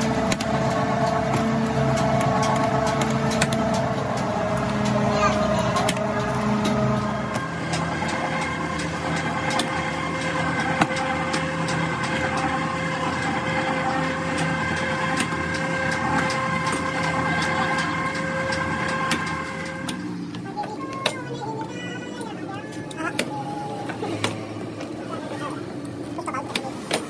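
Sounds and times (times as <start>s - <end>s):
factory machinery drone: 0.0s - 27.0s.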